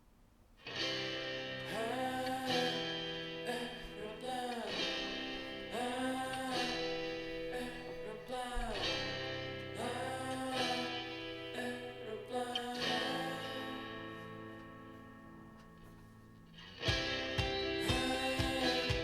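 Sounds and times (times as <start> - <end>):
guitar music through loudspeakers: 0.6 - 19.0.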